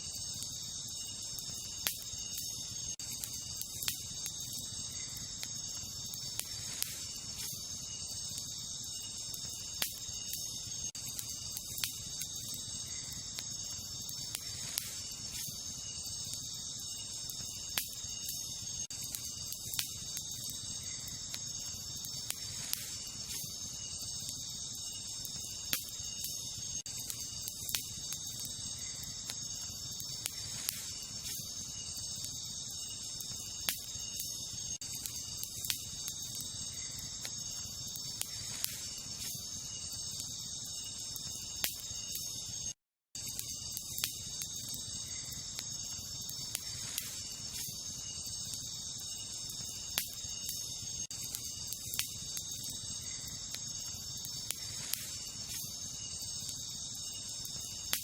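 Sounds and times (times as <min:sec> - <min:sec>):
campfire crackling and popping: 0:00.0 - 0:58.0
night insects chorus: 0:00.0 - 0:58.0.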